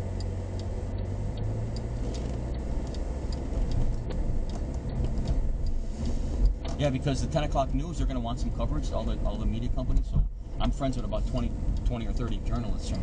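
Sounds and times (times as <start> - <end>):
engine and tyre hum: 0.0 - 13.0
turn signal ticking: 0.0 - 13.0.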